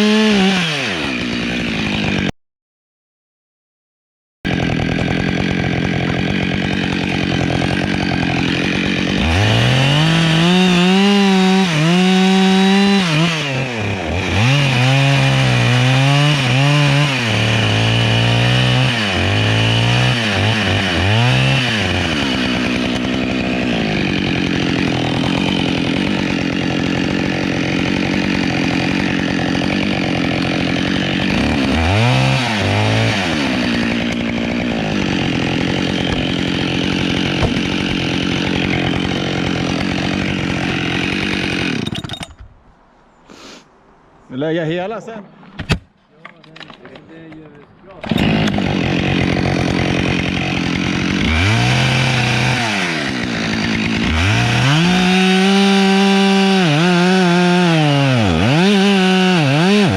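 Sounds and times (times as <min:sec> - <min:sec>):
chainsaw cutting wood: 0:00.0 - 0:02.4, 0:04.5 - 0:42.6, 0:46.6 - 0:59.9.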